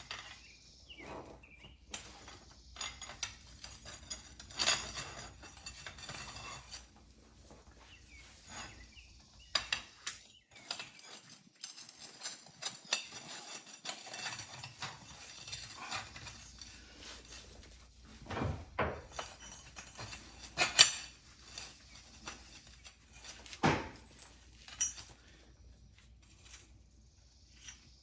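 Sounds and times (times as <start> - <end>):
metal rollers clinking and rattling: 0.0 - 25.5.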